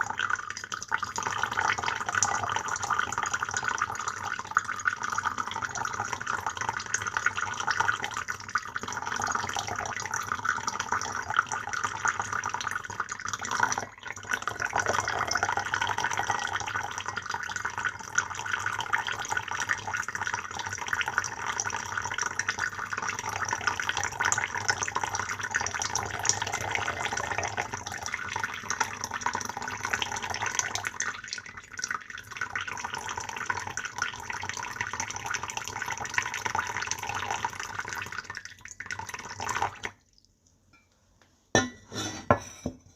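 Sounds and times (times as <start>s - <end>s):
water pouring in a stream: 0.0s - 40.0s.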